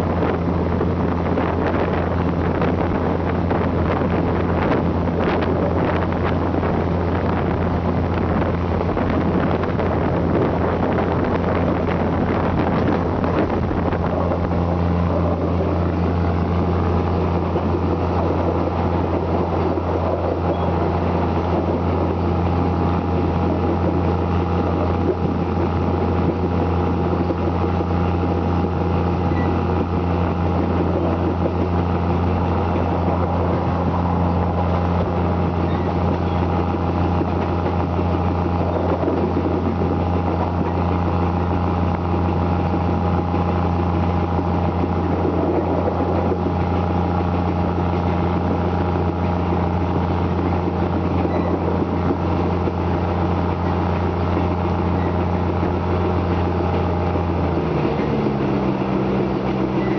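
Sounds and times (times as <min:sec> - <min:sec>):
diesel railcar engine drone: 0:00.0 - 0:59.9.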